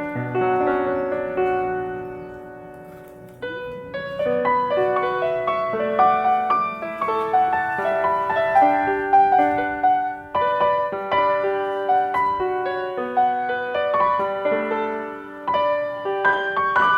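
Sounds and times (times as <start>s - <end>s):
gentle piano melody: 0.0s - 16.9s.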